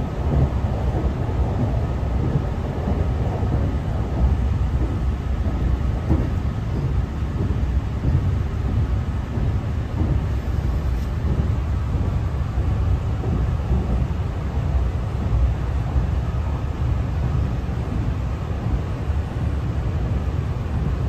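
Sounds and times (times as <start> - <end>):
train cabin rumble: 0.0 - 21.0.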